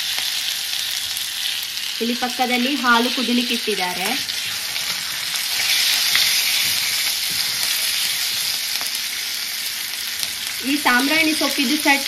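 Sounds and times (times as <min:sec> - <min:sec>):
leaves and onion frying hiss: 0:00.0 - 0:12.0.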